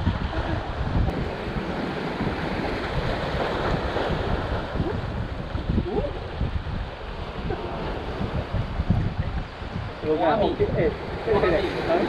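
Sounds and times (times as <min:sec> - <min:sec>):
waves washing against rocks: 0:00.0 - 0:12.0
wind buffeting microphone: 0:00.0 - 0:12.0.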